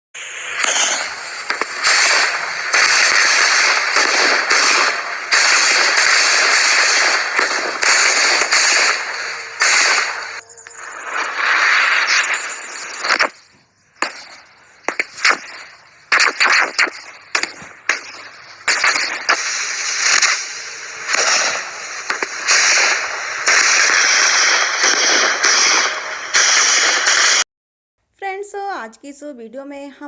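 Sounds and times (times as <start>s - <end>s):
firecrackers banging and crackling: 0.3s - 27.4s.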